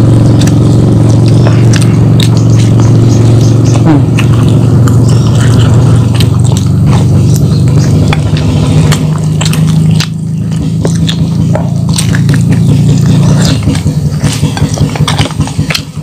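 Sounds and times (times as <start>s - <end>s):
steady low hum: 0.0s - 16.0s
wet chewing and mouth smacks: 0.0s - 16.0s.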